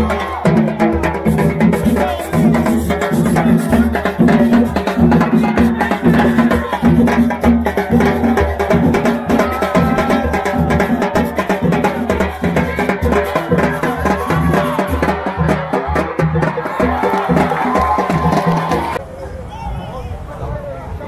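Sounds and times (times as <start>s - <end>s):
drums and percussion beat: 0.0s - 19.0s
voices singing: 0.0s - 19.0s.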